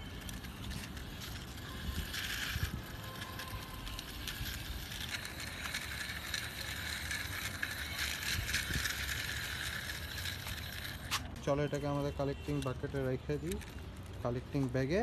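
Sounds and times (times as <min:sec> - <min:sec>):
plastic toy wheels rattling: 0:00.0 - 0:15.0.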